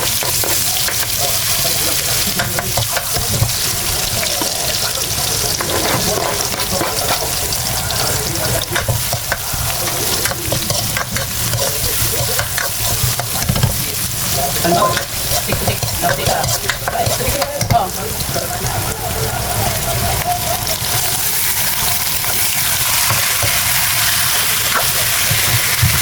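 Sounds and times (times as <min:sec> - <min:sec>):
utensil scraping a pan: 0:00.0 - 0:19.8, 0:20.8 - 0:26.0
food sizzling in a frying pan: 0:00.0 - 0:26.0.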